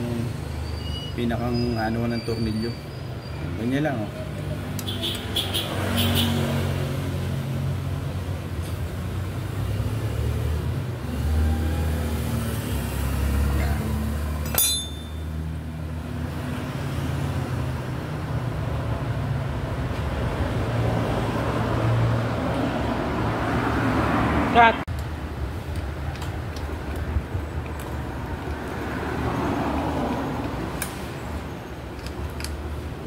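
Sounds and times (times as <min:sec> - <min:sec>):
vehicle engines passing: 0:00.0 - 0:33.0.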